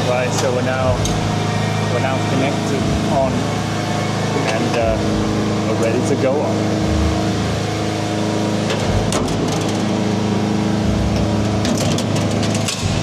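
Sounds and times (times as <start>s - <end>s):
electric machinery hum: 0.0s - 13.0s.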